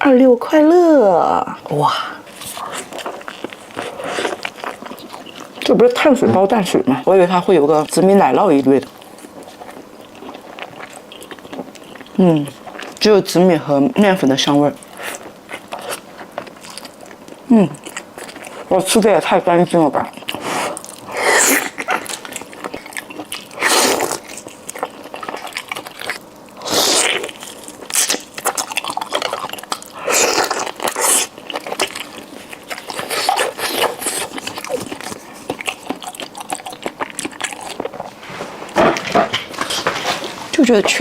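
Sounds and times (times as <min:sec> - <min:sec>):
loud bursts of eating noise: 0:00.0 - 0:41.0
wet chewing and mouth clicks: 0:01.6 - 0:41.0.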